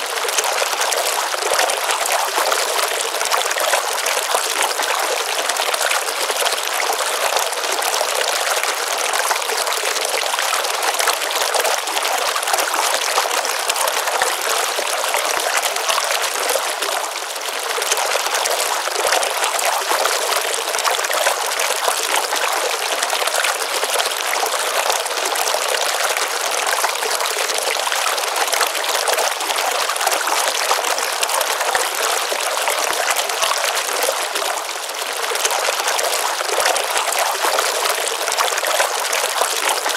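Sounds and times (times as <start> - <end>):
stream pouring into pond: 0.0 - 39.9.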